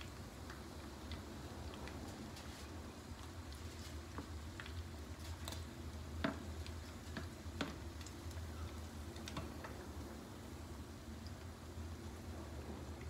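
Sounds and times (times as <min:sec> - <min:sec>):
faint oil sizzling: 0:00.0 - 0:13.0
steady low hum: 0:00.0 - 0:13.0.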